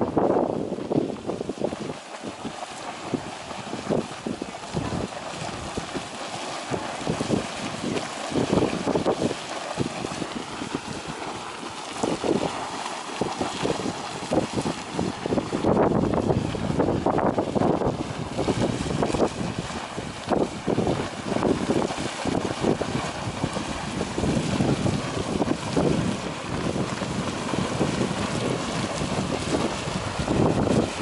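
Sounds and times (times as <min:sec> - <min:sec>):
geyser rushing water: 0:00.0 - 0:31.0
wind buffeting microphone: 0:00.0 - 0:31.0.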